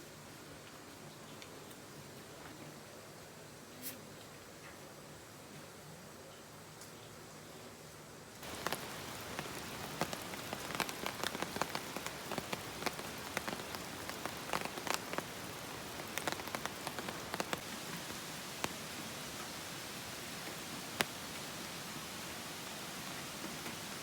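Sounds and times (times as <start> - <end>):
light rain falling: 0.0 - 24.0.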